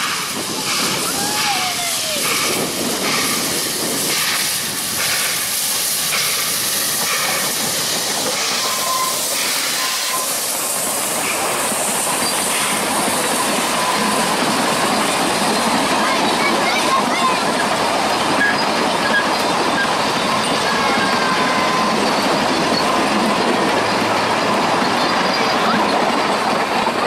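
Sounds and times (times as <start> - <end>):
carriages rolling on rails: 0.0 - 27.0
steam hissing: 0.0 - 27.0
steam locomotive chuffing: 0.0 - 27.0.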